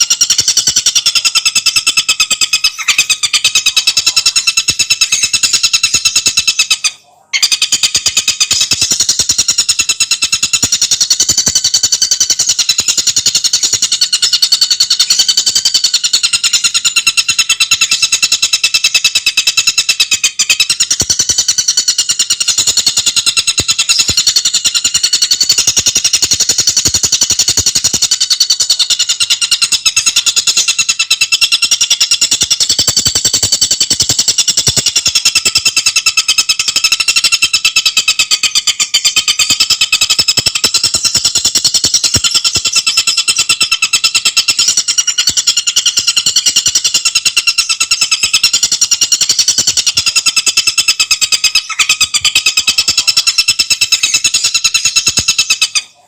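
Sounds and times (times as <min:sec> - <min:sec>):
bird singing fast rattling trill: 0:00.0 - 0:55.8.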